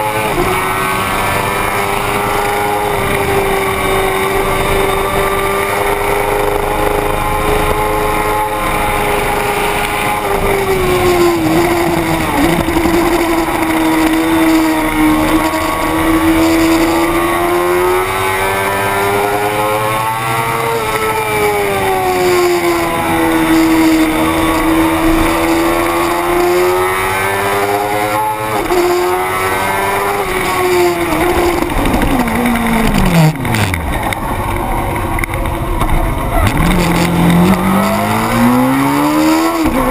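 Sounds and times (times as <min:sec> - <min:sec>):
racing motorcycle engine at high revs: 0:00.0 - 0:39.9.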